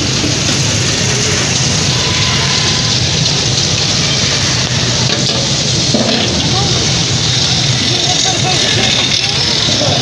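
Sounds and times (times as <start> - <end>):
oil sizzling in deep fryer: 0.0 - 10.0.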